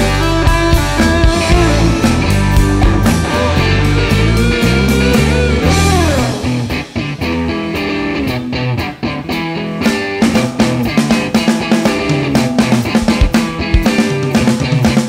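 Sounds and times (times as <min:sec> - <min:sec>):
steady drum beat: 0:00.0 - 0:07.6, 0:09.9 - 0:15.0
guitar note sliding down: 0:00.0 - 0:15.0
rock music: 0:00.0 - 0:15.0.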